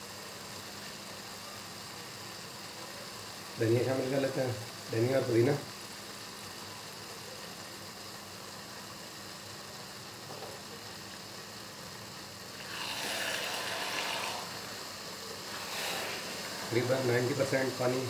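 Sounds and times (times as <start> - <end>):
rice cooking hiss: 0.0 - 18.0.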